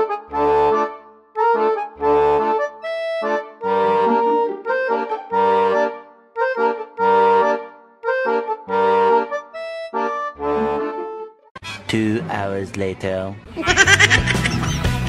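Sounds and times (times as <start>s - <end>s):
background music melody: 0.0s - 15.0s.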